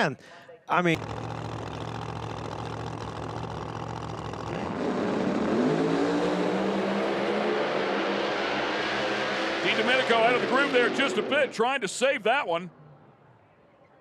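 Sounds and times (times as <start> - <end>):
drag racing car engines: 0.9 - 12.9.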